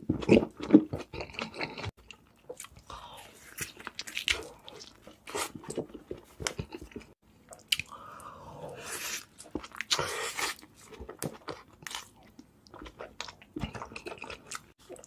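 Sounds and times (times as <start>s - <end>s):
crunchy chewing of fried food: 0.0s - 8.0s, 8.8s - 15.0s.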